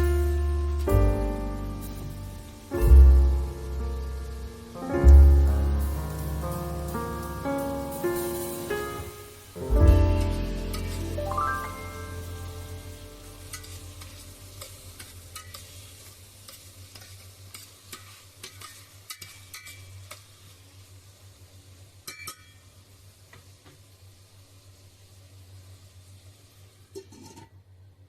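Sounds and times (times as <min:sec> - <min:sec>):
food sizzling in a frying pan: 0:00.0 - 0:27.5.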